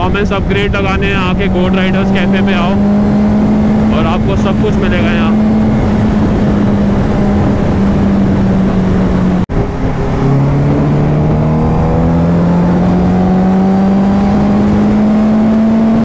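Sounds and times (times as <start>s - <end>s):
motorcycle engine running: 0.0s - 16.0s
wind rush: 0.0s - 16.0s.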